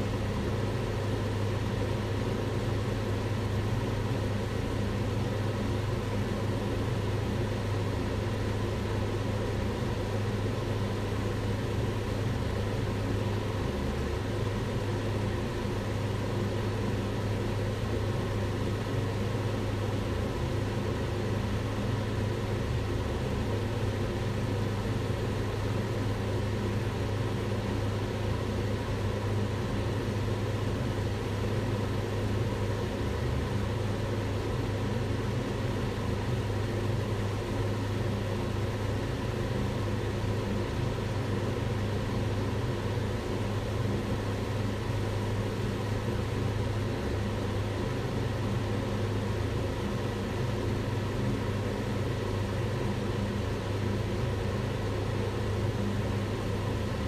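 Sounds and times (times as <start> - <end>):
extractor fan running: 0.0 - 57.0.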